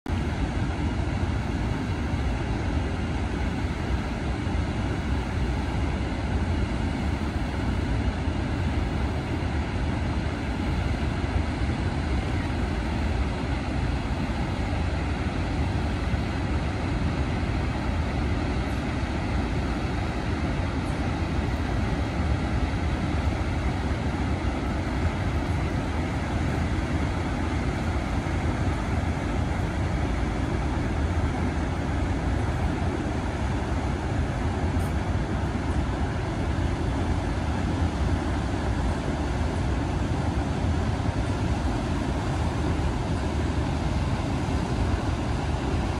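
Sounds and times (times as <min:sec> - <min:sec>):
waterfall rushing: 0:00.2 - 0:45.9.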